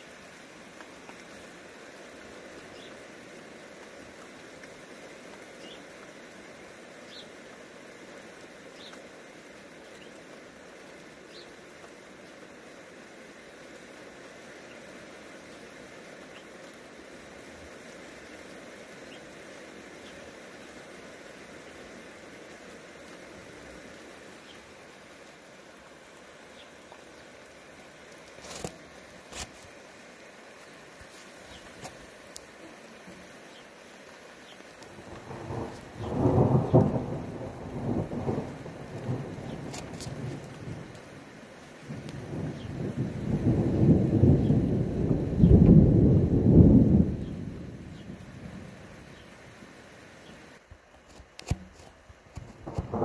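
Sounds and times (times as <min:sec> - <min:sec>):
outdoor background hiss: 0:00.0 - 0:53.0
rain falling: 0:00.0 - 0:53.0.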